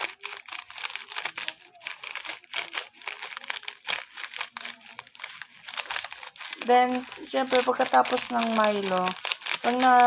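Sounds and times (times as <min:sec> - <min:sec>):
plastic sachet crinkling: 0:00.0 - 0:10.0.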